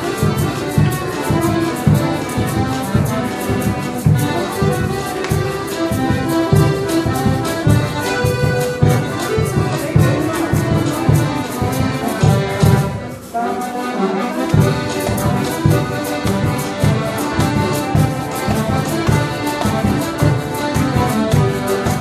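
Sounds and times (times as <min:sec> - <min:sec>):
accordion dance music: 0:00.0 - 0:22.0.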